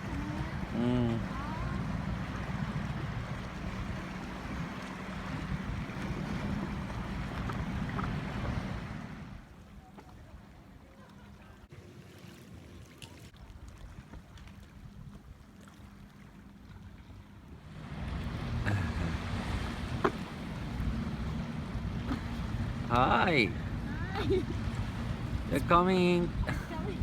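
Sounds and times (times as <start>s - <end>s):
motorboat engine humming: 0.0s - 27.0s
water noise: 0.0s - 27.0s
wind: 0.0s - 27.0s.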